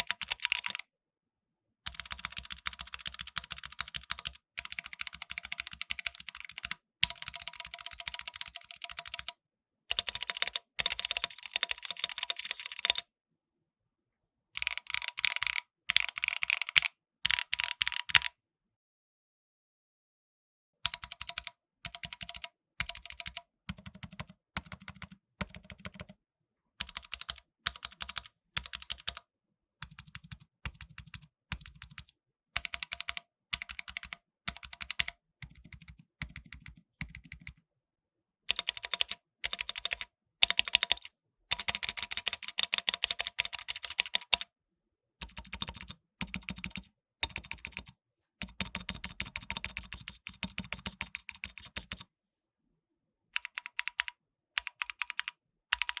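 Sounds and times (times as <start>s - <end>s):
mechanical keyboard typing: 0.0s - 0.8s, 1.9s - 13.0s, 14.6s - 18.3s, 20.9s - 26.2s, 26.8s - 29.2s, 29.8s - 37.6s, 38.5s - 44.5s, 45.2s - 52.1s, 53.4s - 56.0s.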